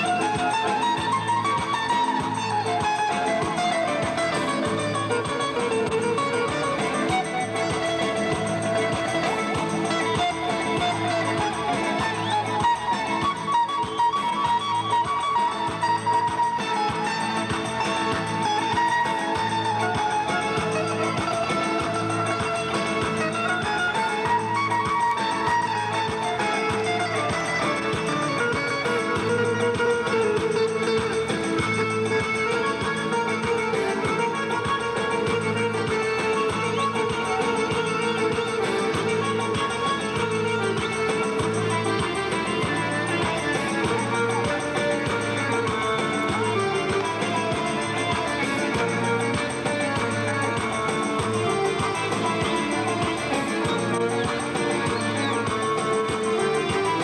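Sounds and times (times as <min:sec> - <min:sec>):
instrumental guitar music with beat: 0:00.0 - 0:57.0.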